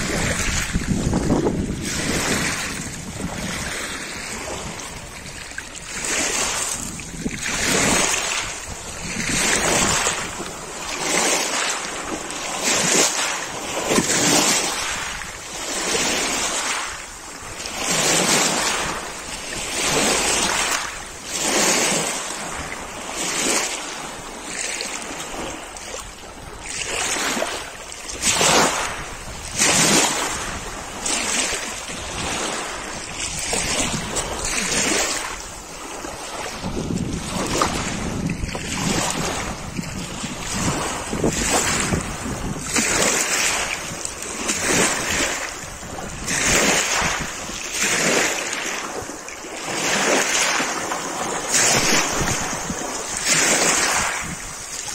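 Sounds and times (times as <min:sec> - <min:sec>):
waves washing over pebbles: 0:00.0 - 0:54.9.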